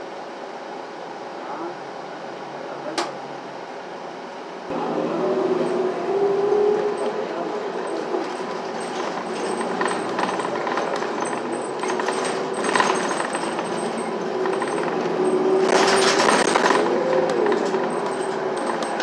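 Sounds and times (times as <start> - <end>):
bus drivetrain hum: 0.0 - 19.0
road noise: 0.0 - 19.0.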